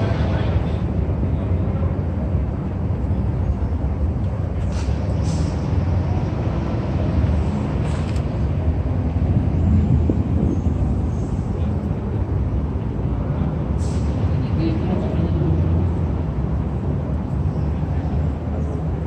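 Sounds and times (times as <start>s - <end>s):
city street traffic rumble: 0.0s - 19.0s.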